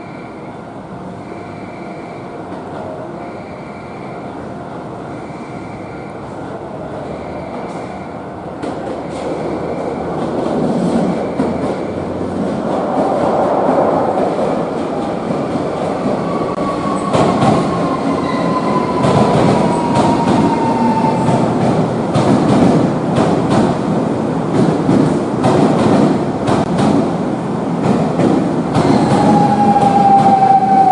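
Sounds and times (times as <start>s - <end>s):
electric train rumbling on rails: 0.0s - 30.9s.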